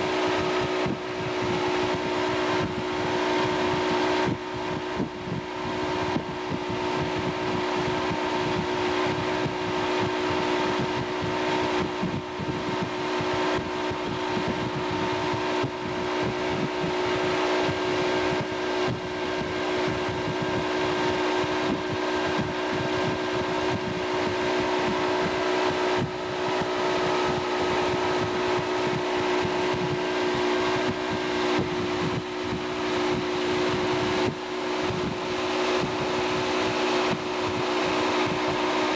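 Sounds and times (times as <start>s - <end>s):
motorboat engine drone: 0.0s - 38.9s
wind buffeting microphone: 0.0s - 38.9s.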